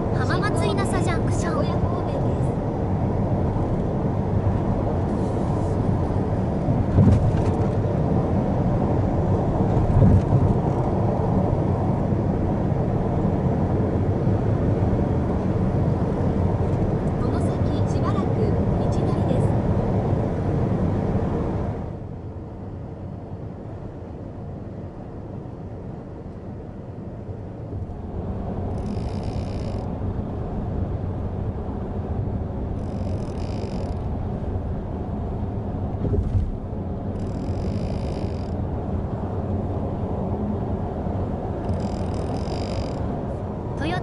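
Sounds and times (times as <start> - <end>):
road and tyre noise in car cabin: 0.0 - 44.0.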